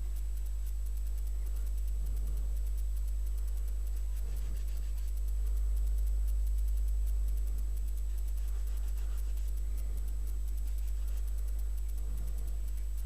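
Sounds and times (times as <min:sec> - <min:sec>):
deep hum: 0:00.0 - 0:13.0
faint high whine: 0:00.0 - 0:13.0
fine ticking: 0:00.0 - 0:13.0.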